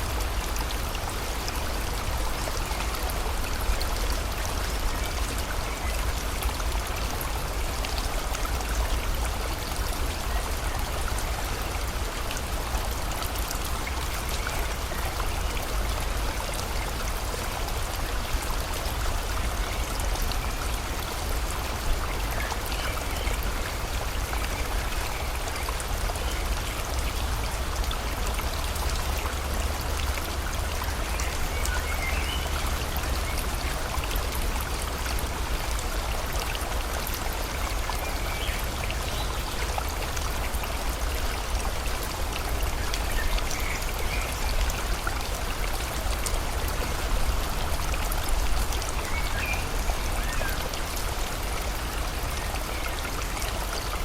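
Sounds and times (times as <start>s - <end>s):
river flowing: 0.0s - 54.0s
steady rain: 0.0s - 54.0s.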